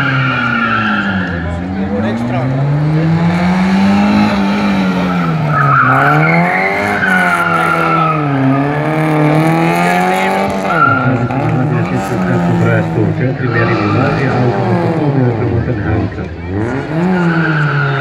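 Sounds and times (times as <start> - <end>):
car engine revving hard: 0.0 - 18.0.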